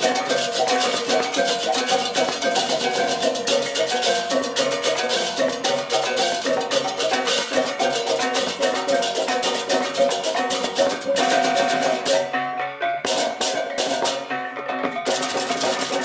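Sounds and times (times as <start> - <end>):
fast clashing cymbals: 0.0 - 12.4, 13.0 - 14.4, 15.0 - 16.0
gongs ringing: 0.0 - 16.0
tuned metal keys ringing: 0.0 - 16.0.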